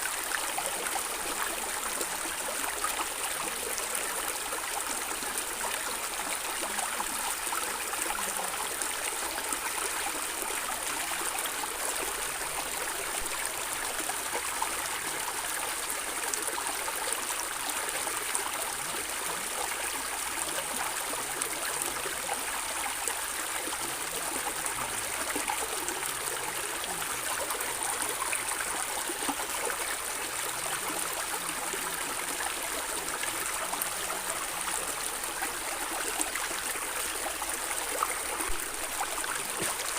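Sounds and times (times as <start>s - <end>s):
stream of water gurgling: 0.0s - 39.9s.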